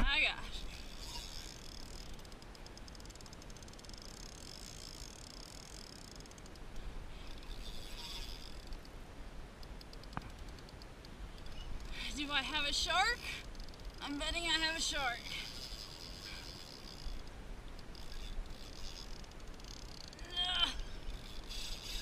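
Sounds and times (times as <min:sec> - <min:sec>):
fishing reel ticking: 0:00.5 - 0:09.0, 0:09.6 - 0:22.0.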